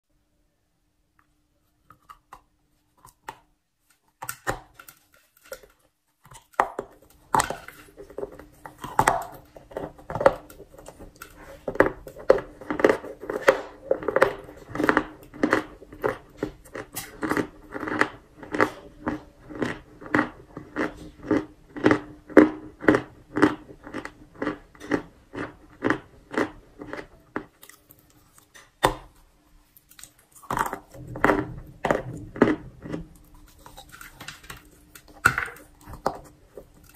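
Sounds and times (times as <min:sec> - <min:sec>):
crunching and chewing chalk: 0:01.7 - 0:36.9.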